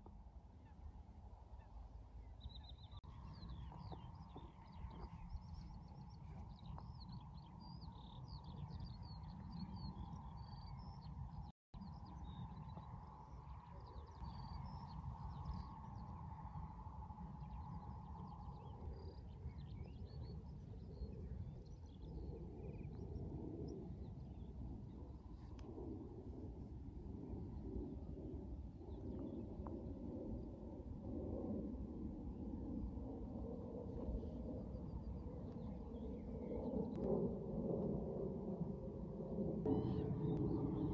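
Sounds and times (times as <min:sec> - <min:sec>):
steady low rumble: 0:01.8 - 0:40.9.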